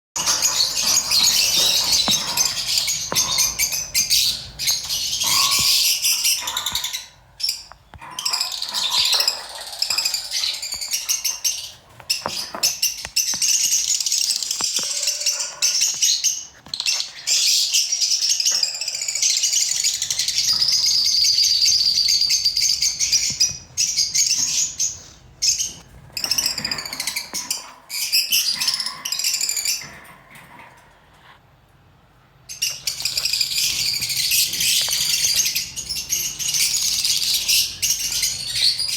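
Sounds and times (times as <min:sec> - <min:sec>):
lovebirds chirping and twittering: 0:00.2 - 0:31.3, 0:32.4 - 0:38.9.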